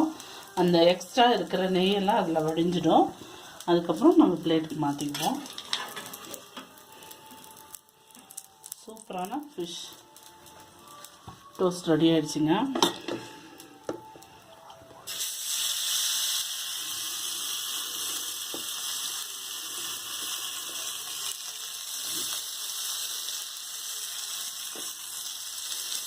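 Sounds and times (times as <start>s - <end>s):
fish sizzling in a pan: 0.0s - 11.6s, 12.4s - 26.0s.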